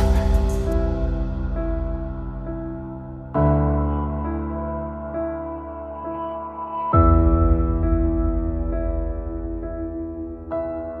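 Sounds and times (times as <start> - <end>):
background music of held chords: 0.0 - 11.0.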